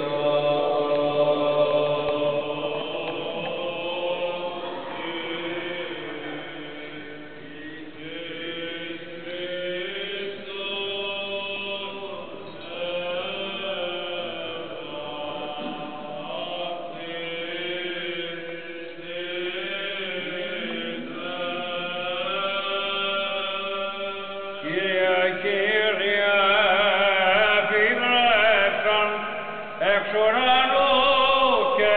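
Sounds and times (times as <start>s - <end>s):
voices chanting liturgy: 0.0s - 31.9s.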